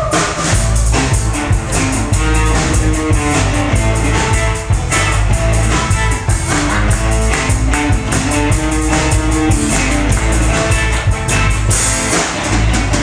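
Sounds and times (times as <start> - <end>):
drums keeping steady beat: 0.0 - 13.0
rock band playing live: 0.0 - 13.0.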